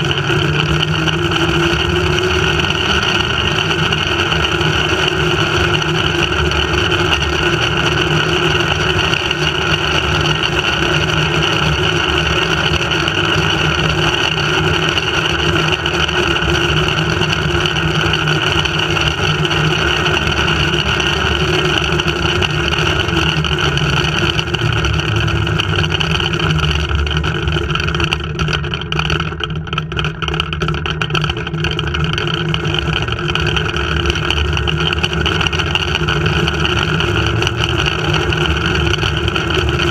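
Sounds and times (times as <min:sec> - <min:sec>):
zipline pulleys whirring on cable: 0:00.0 - 0:39.9.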